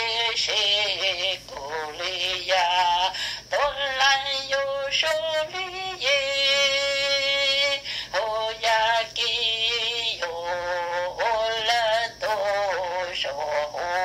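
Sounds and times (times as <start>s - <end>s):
person singing a slow melody: 0.0s - 14.0s.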